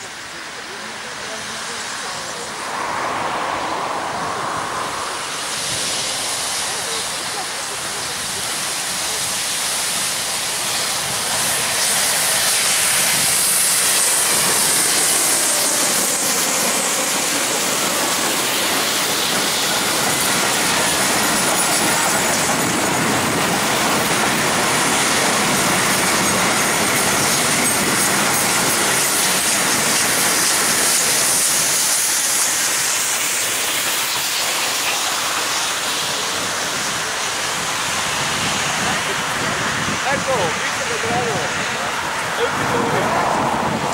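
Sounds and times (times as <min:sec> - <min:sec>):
coaches rolling on rails: 0:00.0 - 0:43.9
steam locomotives exhausting: 0:00.0 - 0:43.9.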